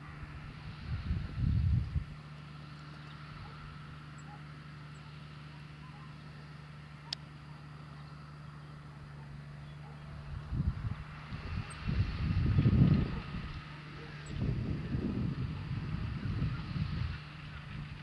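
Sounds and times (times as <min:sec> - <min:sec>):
distant tractor diesel engine: 0:00.0 - 0:18.0.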